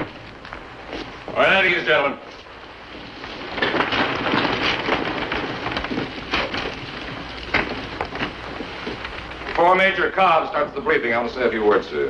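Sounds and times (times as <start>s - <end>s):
chairs scraping and knocking: 0.0s - 10.0s
clothing rustling: 0.0s - 10.0s.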